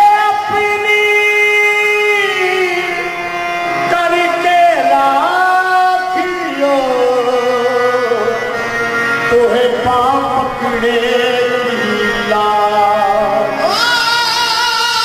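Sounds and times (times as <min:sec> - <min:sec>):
man singing: 0:00.0 - 0:08.6, 0:09.2 - 0:15.0
harmonium chords: 0:00.0 - 0:15.0
tabla: 0:00.0 - 0:15.0.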